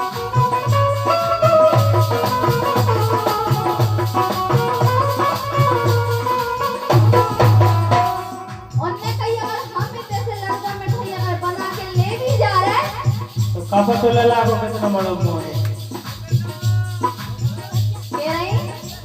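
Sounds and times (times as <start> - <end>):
rattling percussion: 0.0 - 19.0
steady drum beat: 0.0 - 19.0.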